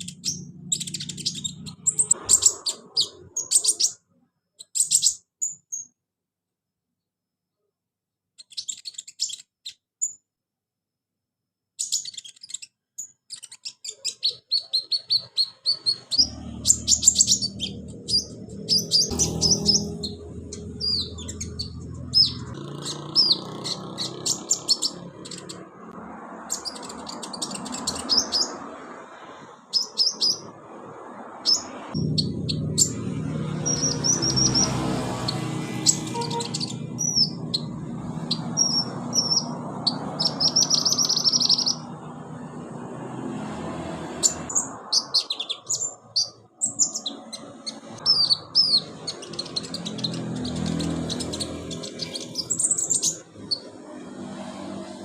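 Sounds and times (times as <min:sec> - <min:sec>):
bird chirps and trills: 0:00.0 - 0:06.0, 0:08.4 - 0:10.2, 0:11.8 - 0:42.6, 0:43.9 - 0:55.0.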